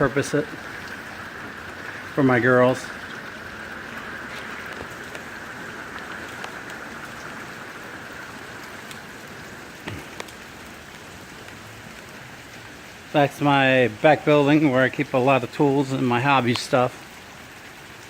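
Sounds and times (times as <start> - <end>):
drops ticking: 0.0 - 17.2
steady rain falling: 0.0 - 18.0.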